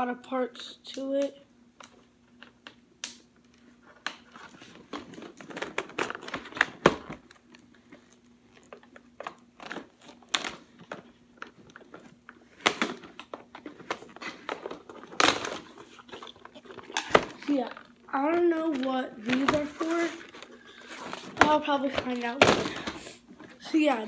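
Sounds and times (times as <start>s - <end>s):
cardboard and plastic rustling: 3.5s - 24.0s.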